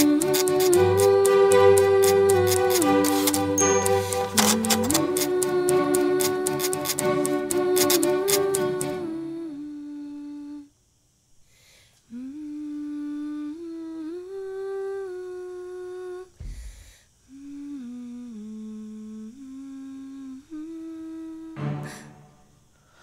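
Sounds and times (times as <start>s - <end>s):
person humming a slow tune: 0.0s - 10.8s, 12.1s - 16.4s, 17.2s - 22.6s.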